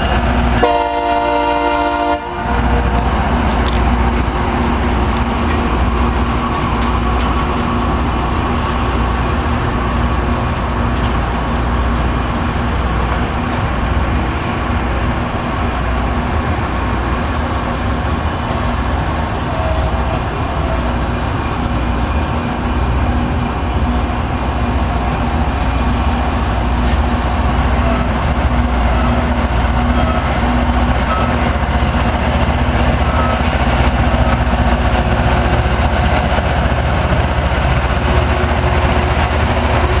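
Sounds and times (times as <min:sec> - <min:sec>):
train diesel engines droning: 0:00.0 - 0:40.0.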